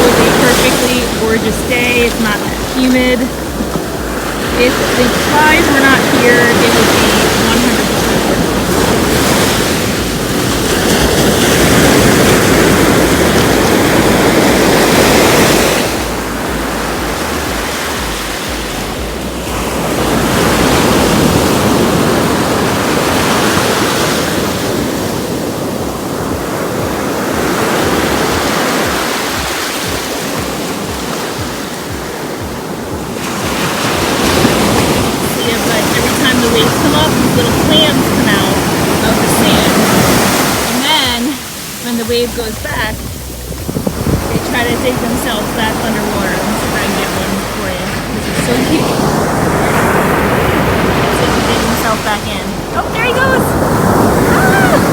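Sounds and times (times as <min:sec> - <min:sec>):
ocean surf breaking on sand: 0:00.0 - 0:54.9.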